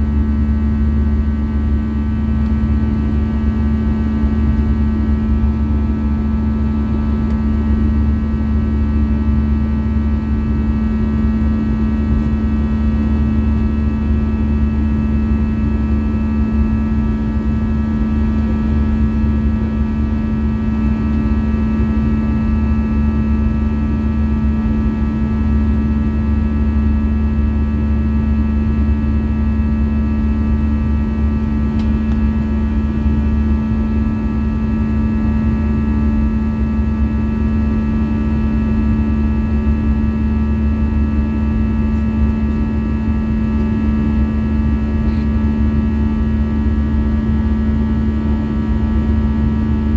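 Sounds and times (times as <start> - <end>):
jet cabin drone: 0.0 - 49.9.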